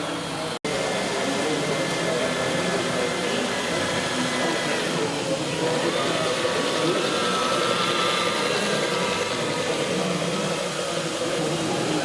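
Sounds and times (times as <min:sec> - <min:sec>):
model truck engine running: 0:00.0 - 0:12.0.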